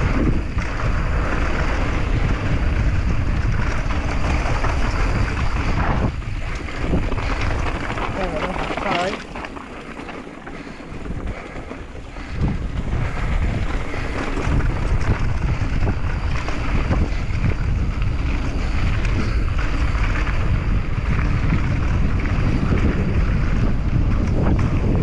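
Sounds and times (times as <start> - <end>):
tyres rolling over gravel: 0.0 - 25.0
wind buffeting microphone: 0.0 - 25.0.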